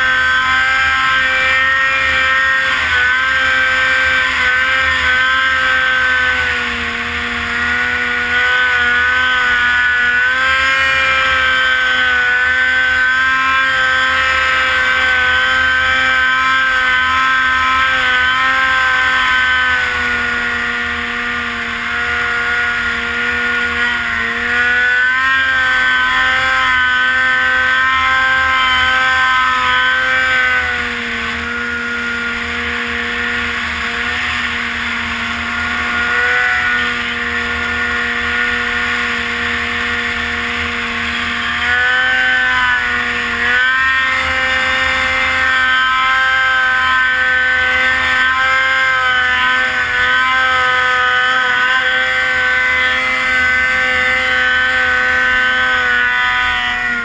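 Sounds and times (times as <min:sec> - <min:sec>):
snowmobile engine under throttle: 0:00.0 - 0:57.0.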